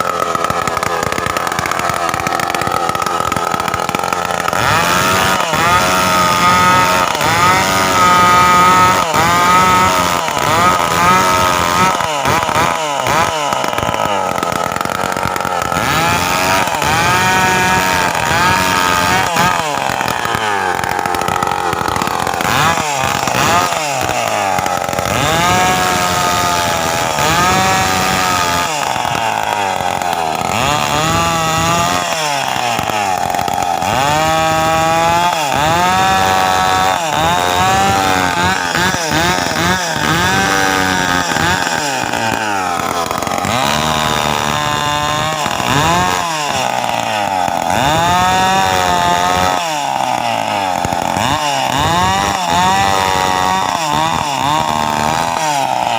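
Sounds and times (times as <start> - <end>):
chainsaw revving: 0.0 - 55.9.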